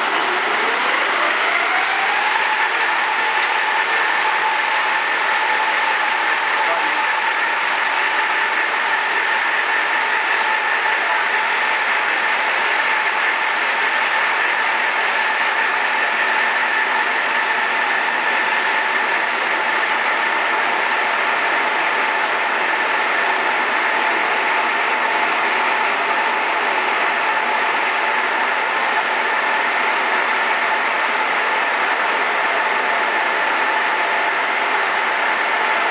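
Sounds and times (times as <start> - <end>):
constant high whine: 0.0 - 35.9.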